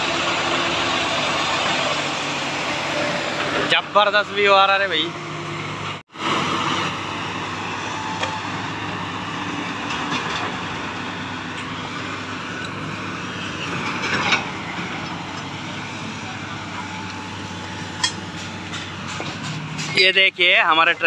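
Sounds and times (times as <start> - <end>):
diesel machinery engine running: 0.0 - 21.0.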